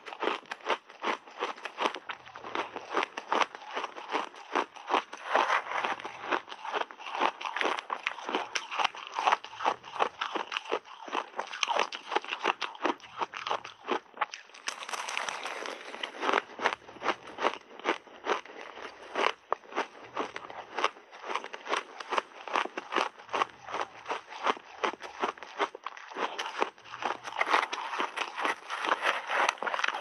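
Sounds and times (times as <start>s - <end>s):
crunching ice while chewing: 0.0s - 30.0s.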